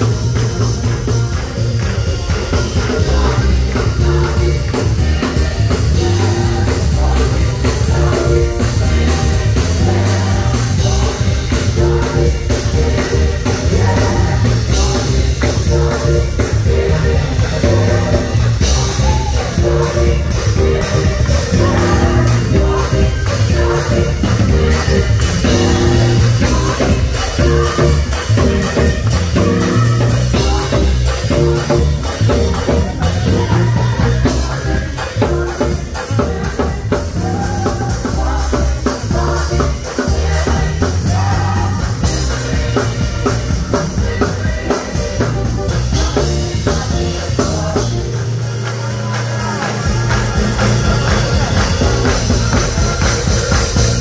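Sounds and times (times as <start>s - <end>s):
drum kit: 0.0s - 54.0s
gospel choir singing: 0.0s - 54.0s
low bass line: 0.0s - 54.0s.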